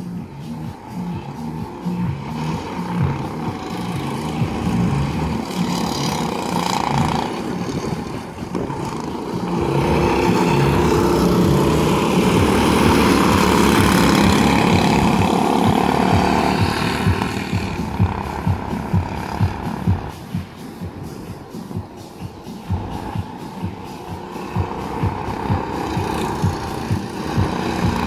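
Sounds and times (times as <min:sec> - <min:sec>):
go-kart engines running: 0:00.0 - 0:28.0.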